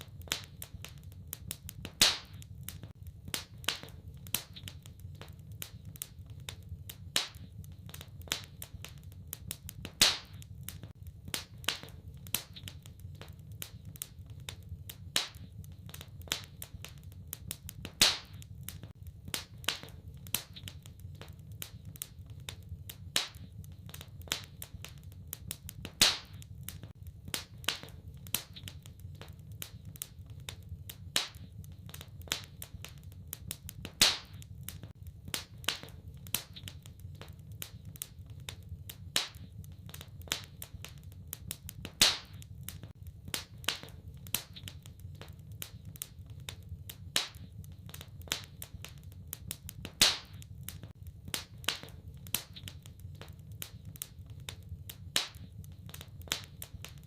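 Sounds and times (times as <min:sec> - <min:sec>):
low rumble of burning: 0:00.0 - 0:57.0
wood fire crackling and popping: 0:00.0 - 0:57.0.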